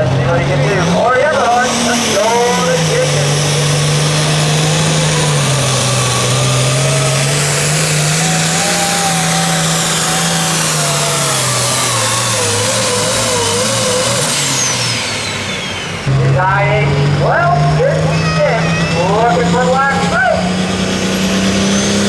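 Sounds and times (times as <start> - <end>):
engine running at high revs: 0.0 - 22.0.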